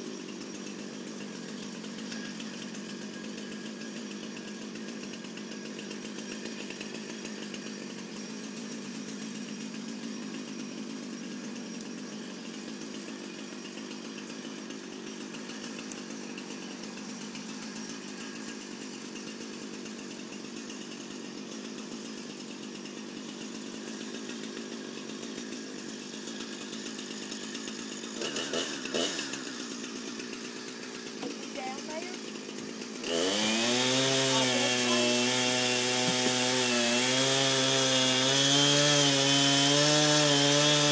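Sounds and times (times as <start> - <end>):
chainsaw running: 0.0 - 40.9.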